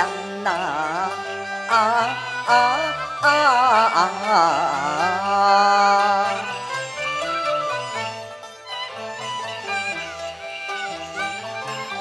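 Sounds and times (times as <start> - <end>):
traditional instrumental ensemble: 0.0 - 12.0.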